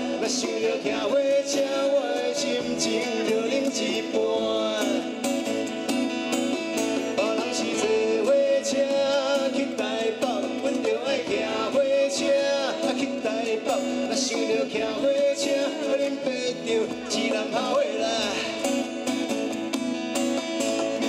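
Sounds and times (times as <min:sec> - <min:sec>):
man singing: 0:00.0 - 0:05.6, 0:07.0 - 0:19.0
acoustic guitar strummed and picked: 0:00.0 - 0:21.0.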